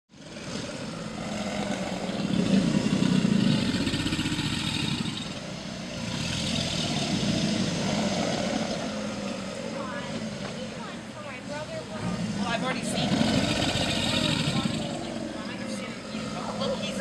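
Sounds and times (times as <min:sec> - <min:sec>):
alligators bellowing: 0:00.1 - 0:17.0.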